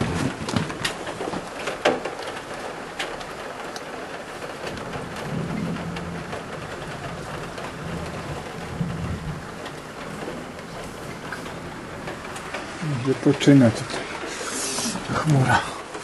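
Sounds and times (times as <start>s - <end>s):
rain and hail on a window: 0.0s - 16.0s.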